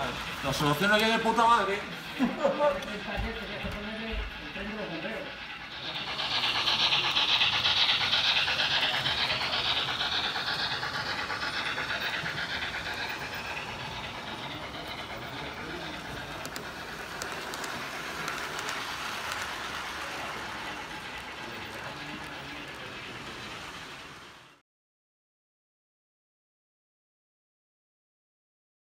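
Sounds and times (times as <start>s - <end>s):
model train wheels rattling: 0.0s - 24.6s.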